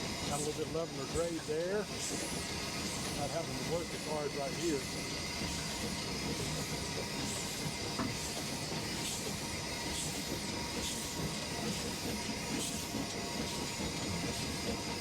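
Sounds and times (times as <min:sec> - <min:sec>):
soft regular locomotive beat: 0:00.0 - 0:15.0
steam hissing: 0:00.0 - 0:15.0.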